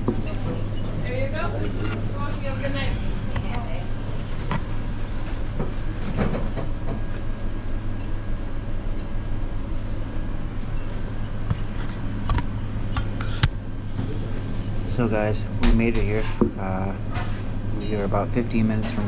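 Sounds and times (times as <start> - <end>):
vehicle cabin drone: 0.0 - 19.0.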